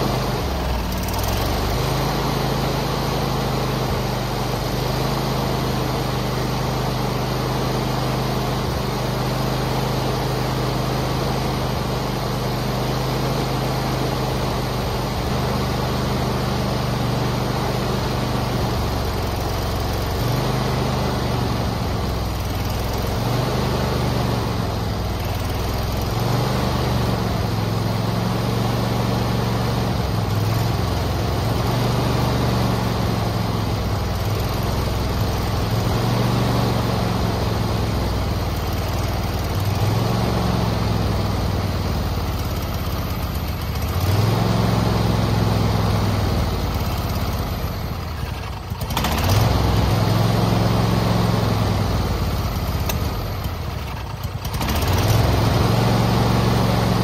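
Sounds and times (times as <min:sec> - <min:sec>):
mower engine surging: 0:00.0 - 0:57.0.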